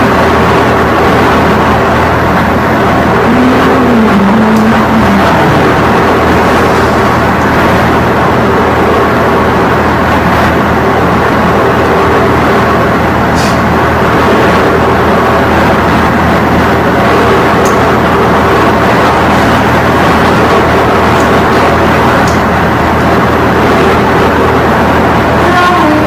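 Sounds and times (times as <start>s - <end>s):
loud steady rumbling: 0.0s - 26.0s
low hum: 0.0s - 26.0s.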